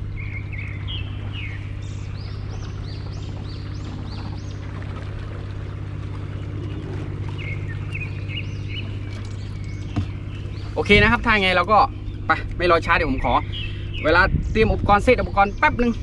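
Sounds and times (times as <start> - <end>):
birds chirping: 0.0 - 16.0
boat engine humming: 0.0 - 16.0.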